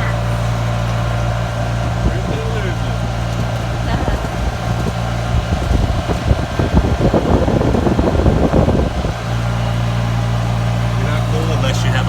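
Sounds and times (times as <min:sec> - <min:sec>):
golf cart rumbling: 0:00.0 - 0:12.0.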